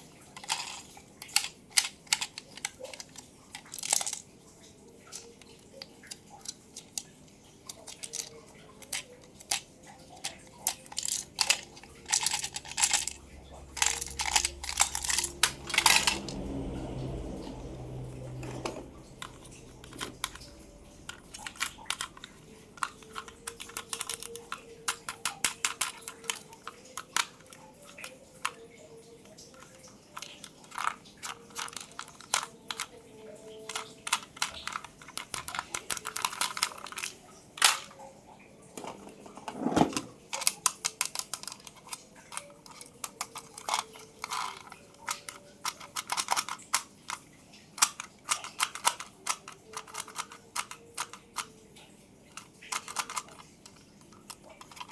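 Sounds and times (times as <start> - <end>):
packaging crackles and clicks: 0.0 - 38.1, 38.9 - 54.9.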